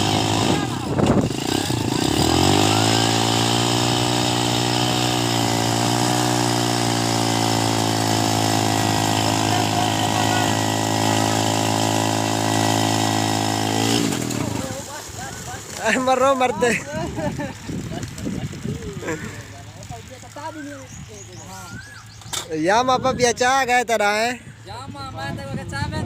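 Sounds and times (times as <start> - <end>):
small petrol engine running: 0.0 - 21.4.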